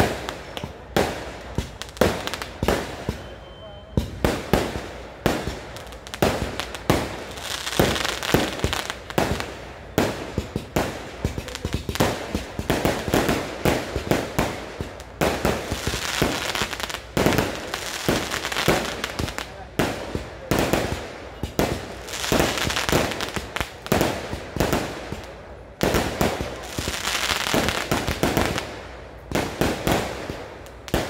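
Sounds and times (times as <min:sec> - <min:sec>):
fireworks banging: 0:00.0 - 0:31.0
fireworks crackling: 0:00.0 - 0:31.0.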